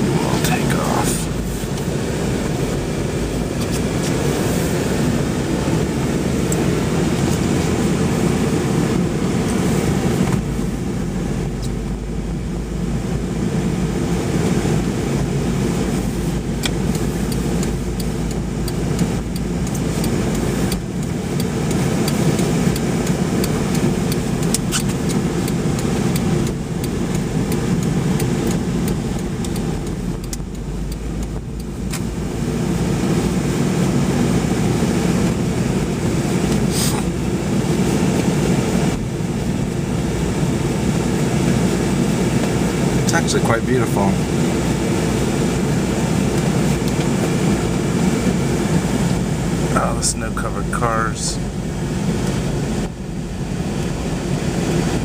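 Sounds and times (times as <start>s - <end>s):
car rumbling over snow: 0.0s - 55.0s.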